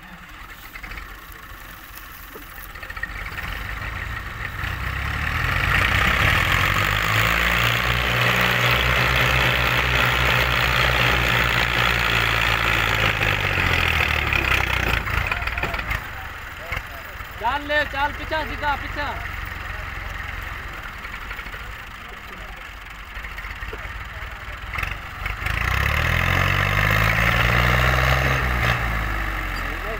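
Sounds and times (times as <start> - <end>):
tractor diesel engine running hard: 0.0 - 29.9.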